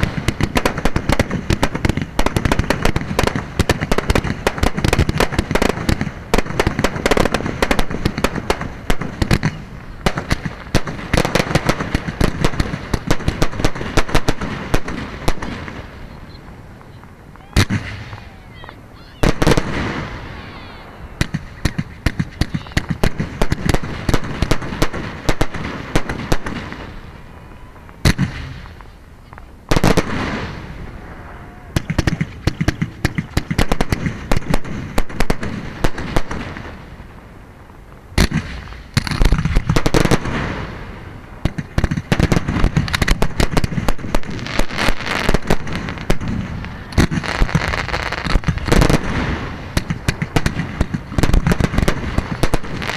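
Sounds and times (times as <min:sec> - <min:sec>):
firework bangs and crackling: 0:00.0 - 0:52.9.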